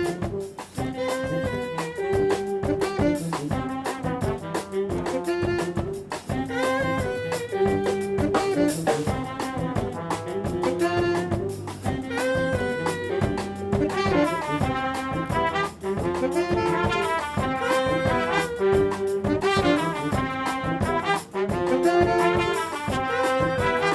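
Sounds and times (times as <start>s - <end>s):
brass band playing funk groove: 0.0s - 23.9s
drums: 0.0s - 23.9s
tuba: 0.0s - 23.9s.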